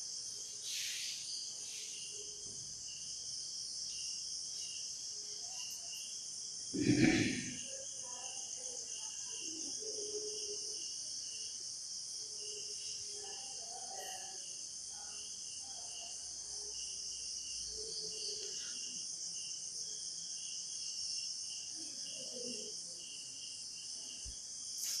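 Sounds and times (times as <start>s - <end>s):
night insects chirping: 0.0s - 25.0s.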